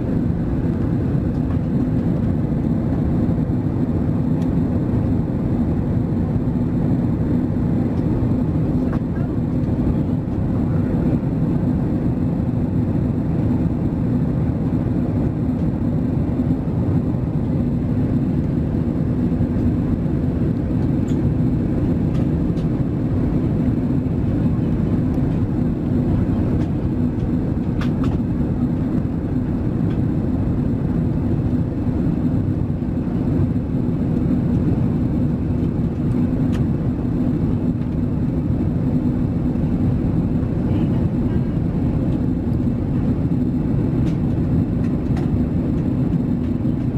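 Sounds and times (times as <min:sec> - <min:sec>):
airplane cabin roar: 0:00.0 - 0:46.9.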